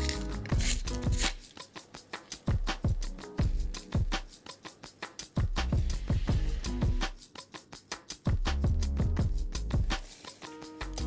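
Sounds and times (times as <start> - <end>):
music with drum beat and bass: 0.0 - 11.0.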